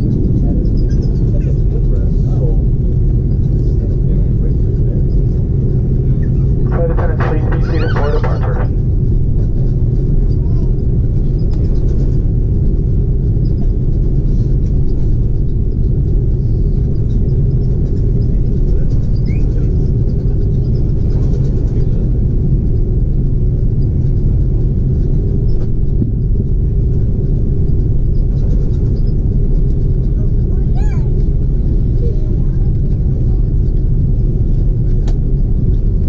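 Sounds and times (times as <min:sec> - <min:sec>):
low engine rumble in cabin: 0:00.0 - 0:36.0
steady hum: 0:00.0 - 0:36.0.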